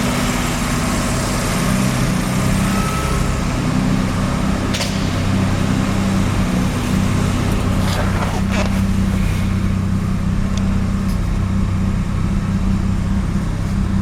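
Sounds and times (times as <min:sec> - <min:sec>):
rotary engine idling: 0:00.0 - 0:14.0.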